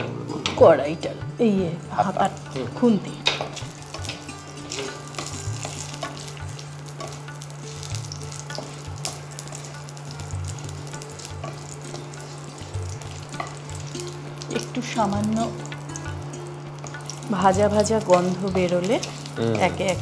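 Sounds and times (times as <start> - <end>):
spices sizzling in hot oil: 0.3 - 20.0.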